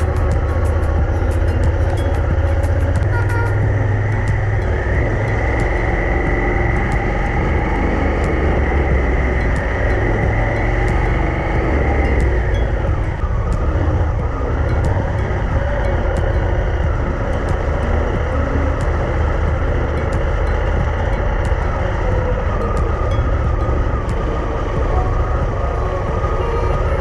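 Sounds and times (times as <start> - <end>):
motorcycle engine rumble: 0.0 - 27.0.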